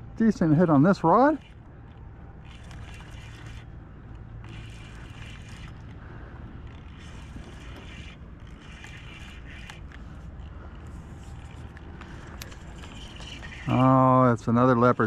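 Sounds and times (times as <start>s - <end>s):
fishing reel winding: 0.5s - 3.8s, 4.4s - 6.0s, 6.6s - 14.1s.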